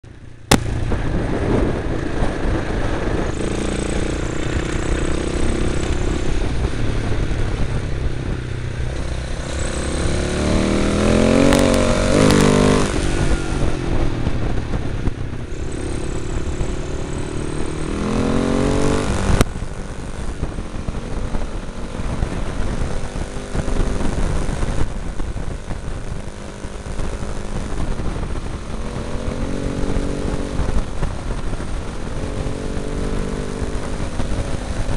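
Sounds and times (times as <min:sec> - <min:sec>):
motorcycle engine revving: 0:00.0 - 0:34.9
wind rushing on microphone: 0:00.1 - 0:34.9.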